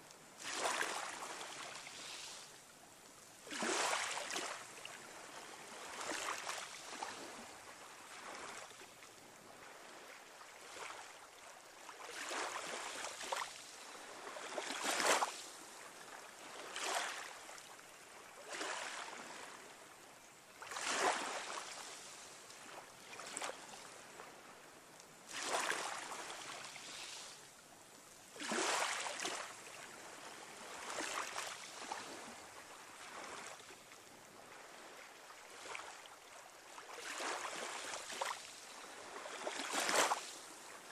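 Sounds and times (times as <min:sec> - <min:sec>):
small waves washing in: 0:00.3 - 0:40.9.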